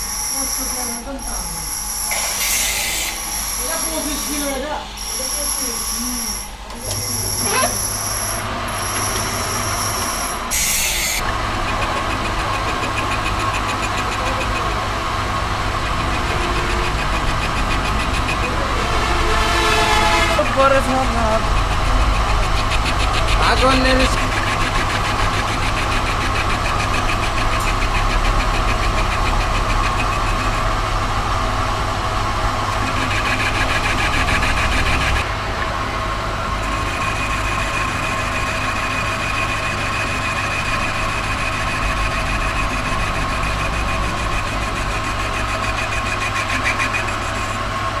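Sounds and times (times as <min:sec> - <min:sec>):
machinery humming and whining: 0:00.0 - 0:48.0.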